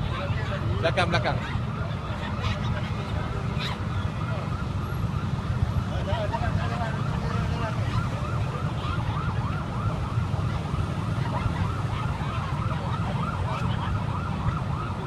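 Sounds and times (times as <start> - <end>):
engines and traffic rumble: 0.0 - 15.0
siren yelping: 0.0 - 15.0.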